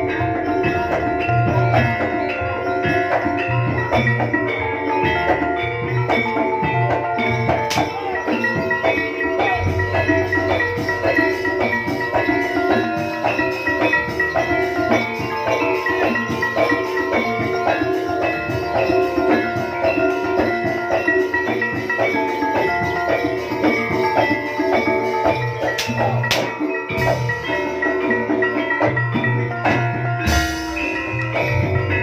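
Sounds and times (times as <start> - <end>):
drums: 0.0 - 32.0
tuned metal percussion: 0.0 - 32.0.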